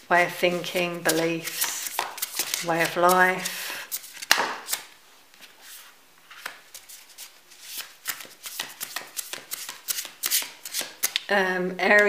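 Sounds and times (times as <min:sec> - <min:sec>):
cards sliding and clicking on table: 0:00.8 - 0:11.2.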